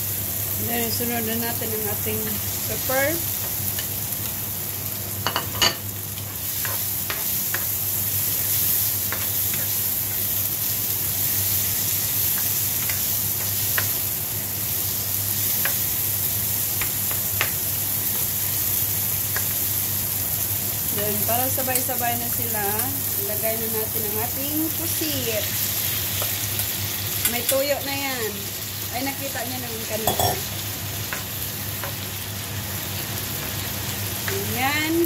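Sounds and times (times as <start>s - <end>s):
exhaust fan hum: 0.0s - 35.0s
vegetables sizzling in hot oil: 0.0s - 35.0s.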